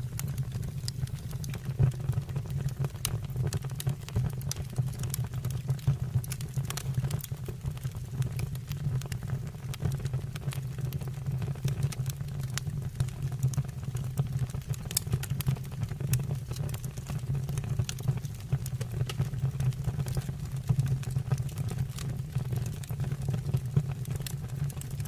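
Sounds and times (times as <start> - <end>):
low rumble of fire: 0.0 - 25.0
wood fire crackling and popping: 0.0 - 25.0.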